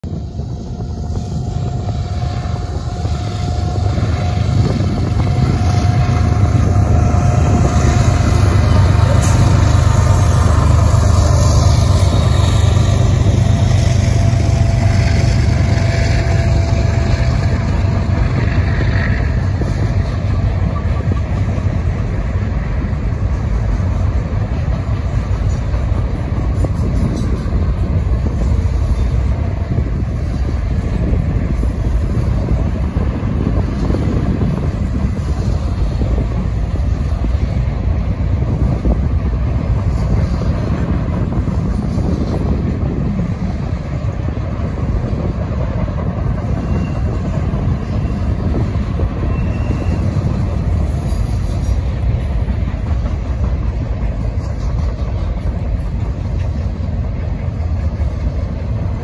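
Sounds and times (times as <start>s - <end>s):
diesel freight train rumble: 0.0s - 59.0s.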